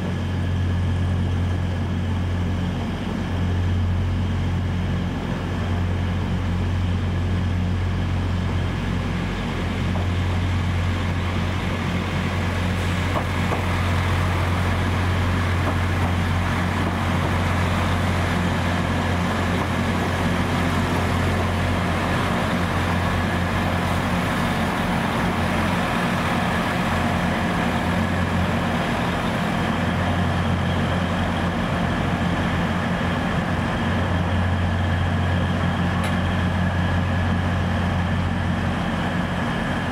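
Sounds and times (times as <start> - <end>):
diesel train engines humming: 0.0 - 39.9.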